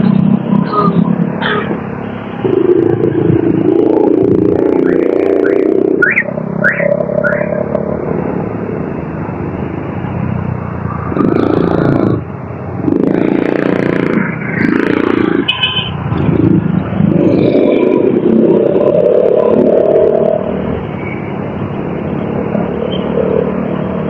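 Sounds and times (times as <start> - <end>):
motorcycle running: 0.0 - 24.0.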